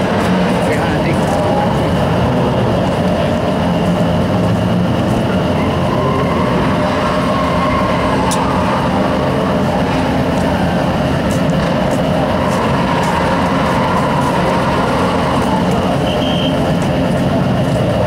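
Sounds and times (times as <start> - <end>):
car engines droning: 0.0 - 18.0.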